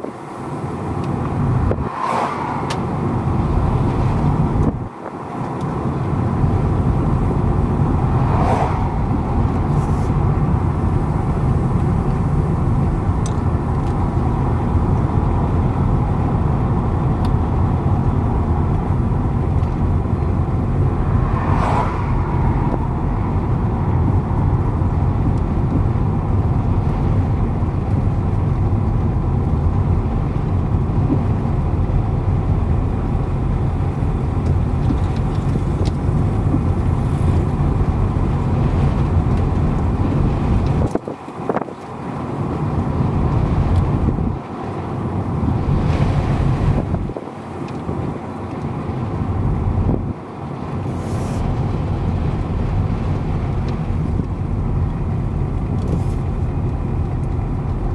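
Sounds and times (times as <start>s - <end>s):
car engine and tyre noise: 0.0s - 57.9s.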